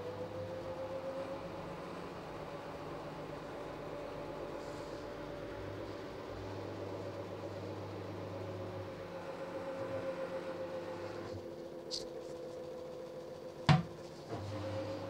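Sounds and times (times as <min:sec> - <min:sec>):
washing machine whining hum: 0:00.0 - 0:15.0.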